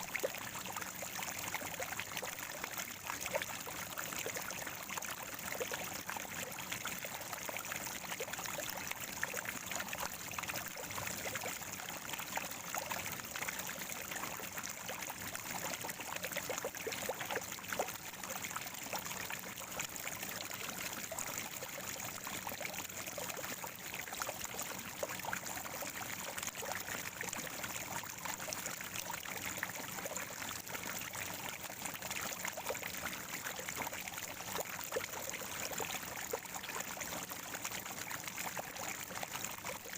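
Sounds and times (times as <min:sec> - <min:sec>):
small water splashes: 0:00.0 - 0:39.9
spring water gurgling: 0:00.0 - 0:39.9.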